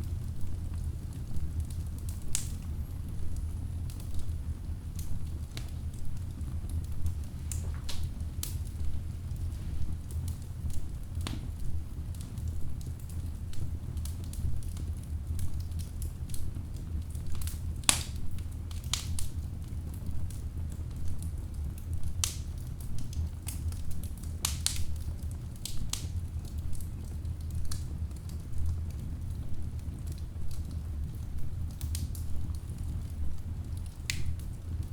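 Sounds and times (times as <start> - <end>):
logs crackling and popping: 0.0 - 34.9
low rumble of flames: 0.0 - 34.9.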